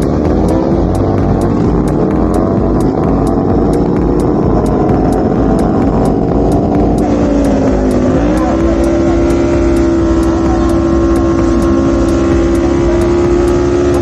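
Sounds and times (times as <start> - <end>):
motorcycle engines running loud: 0.0 - 14.0.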